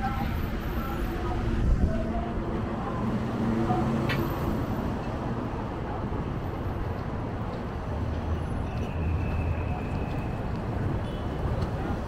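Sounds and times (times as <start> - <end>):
low rumble of busy space: 0.0 - 12.0.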